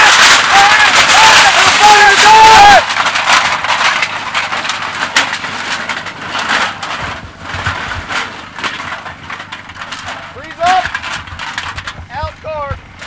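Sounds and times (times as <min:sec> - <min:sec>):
knocks and cracks: 0:00.0 - 0:13.0.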